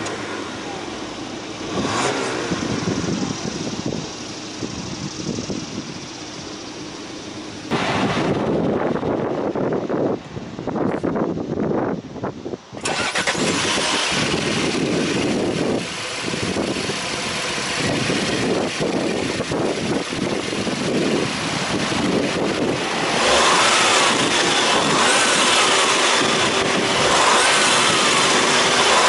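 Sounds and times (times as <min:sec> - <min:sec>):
car engine revving: 0:00.0 - 0:09.6, 0:12.8 - 0:29.0.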